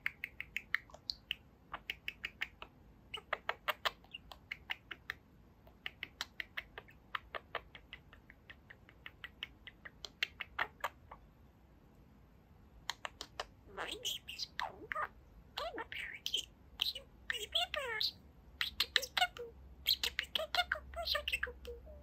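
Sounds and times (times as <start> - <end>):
budgerigar chattering: 0.0 - 11.2, 12.9 - 22.0.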